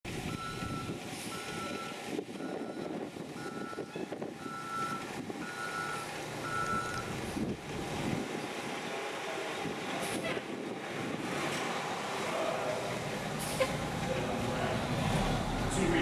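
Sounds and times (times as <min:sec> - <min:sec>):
outdoor background noise: 0:00.1 - 0:16.0.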